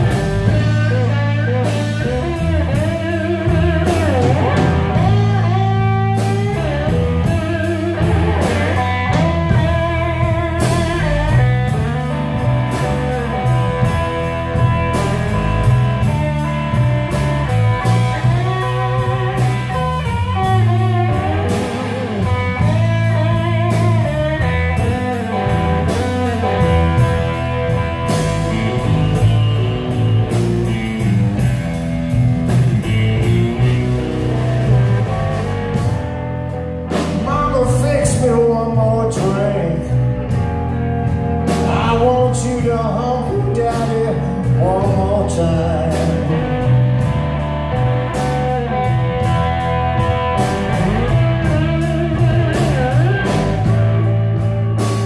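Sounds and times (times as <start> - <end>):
drum kit: 0.0 - 55.0
electric bass: 0.0 - 55.0
electric guitar: 0.0 - 55.0.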